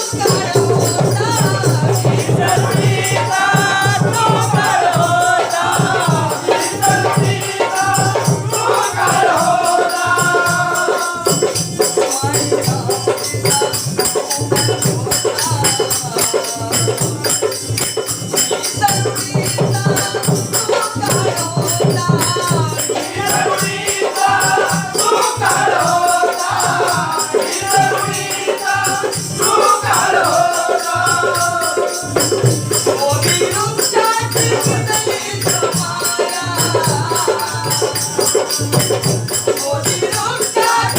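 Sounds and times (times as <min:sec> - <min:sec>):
group singing a song: 0:00.0 - 0:40.9
rhythmic percussion: 0:00.0 - 0:40.9.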